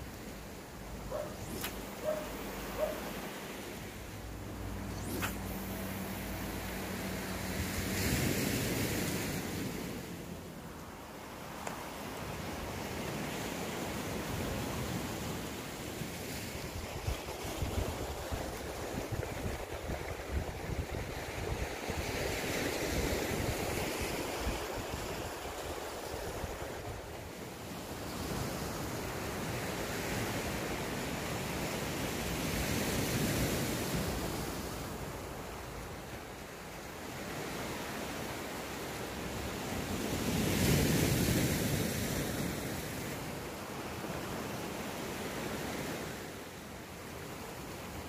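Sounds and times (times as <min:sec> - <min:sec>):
sea waves washing ashore: 0:00.0 - 0:48.0.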